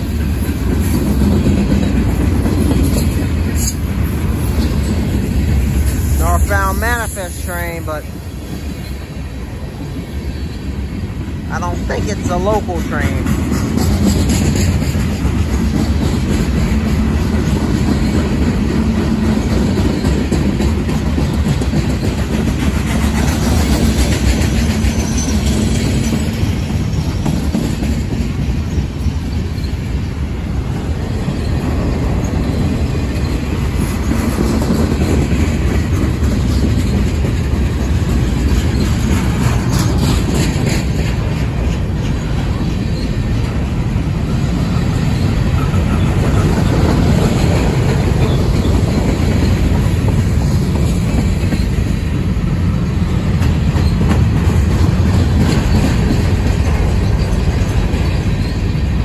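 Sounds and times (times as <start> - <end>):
steel wheels on rails: 0.0 - 59.0.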